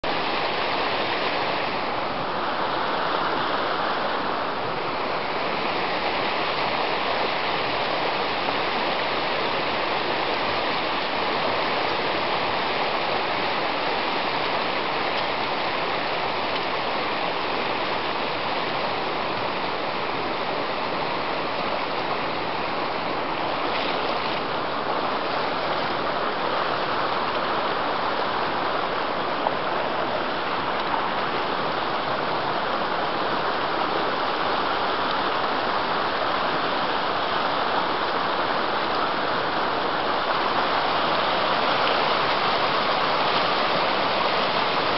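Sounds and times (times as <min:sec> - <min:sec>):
river rushing over stones: 0:00.0 - 0:44.9.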